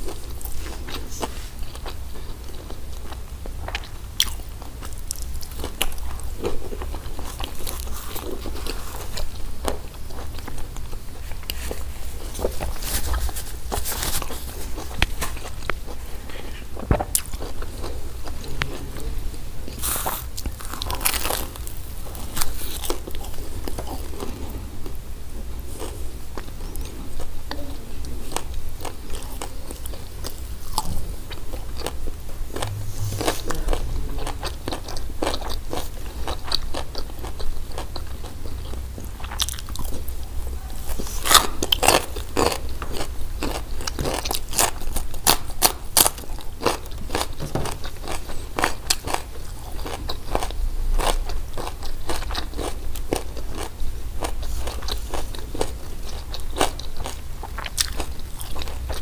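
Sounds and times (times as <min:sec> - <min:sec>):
crunching and chewing of flatbread: 0:00.0 - 0:59.0.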